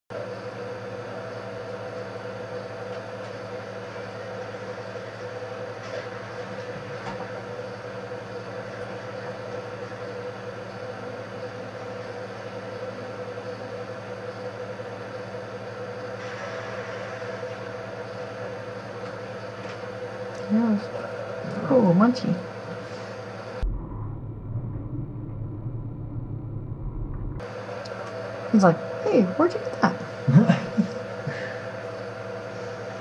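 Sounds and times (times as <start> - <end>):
low electrical hum: 0.1 - 33.0.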